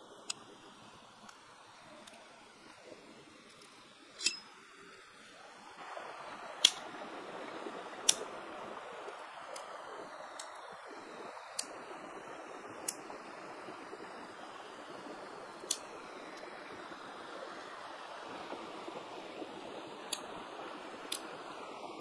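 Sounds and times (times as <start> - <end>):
stream running over pebbles: 0.0 - 22.0.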